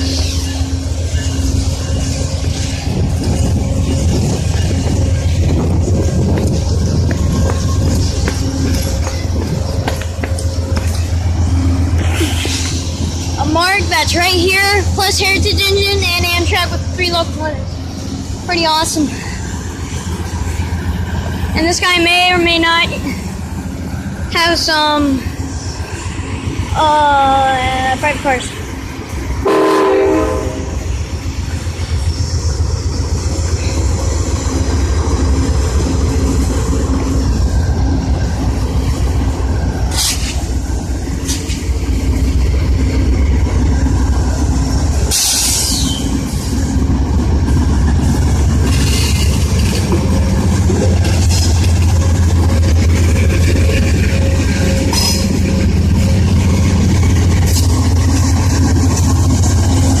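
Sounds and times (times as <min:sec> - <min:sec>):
diesel locomotive droning: 0:00.0 - 1:00.0.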